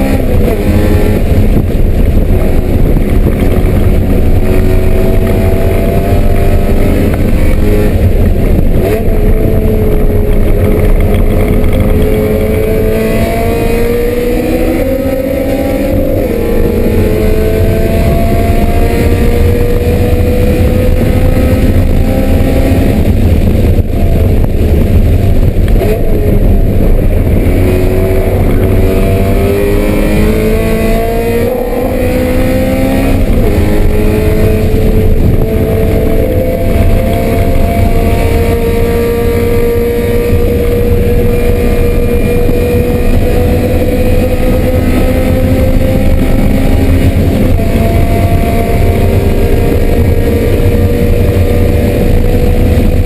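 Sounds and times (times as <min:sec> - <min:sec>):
car engine accelerating: 0:00.0 - 0:53.0
road and wind noise: 0:00.0 - 0:53.0.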